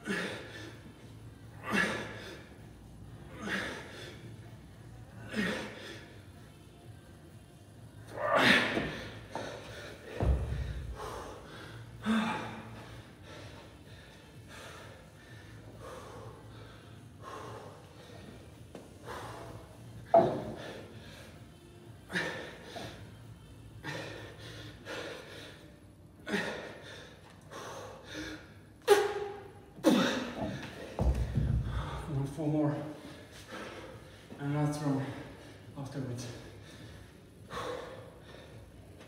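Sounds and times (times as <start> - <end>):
man breathing heavily: 0.0 - 29.1, 29.8 - 39.0.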